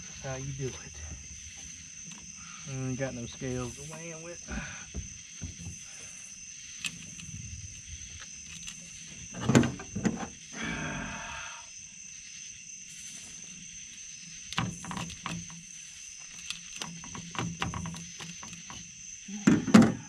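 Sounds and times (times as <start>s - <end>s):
night insects droning: 0.0s - 20.0s.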